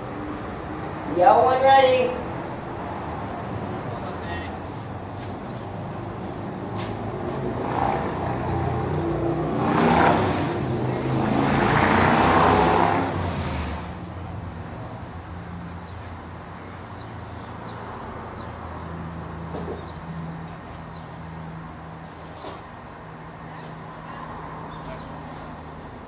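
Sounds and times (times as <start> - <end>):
vehicle passing by: 0.0 - 26.0.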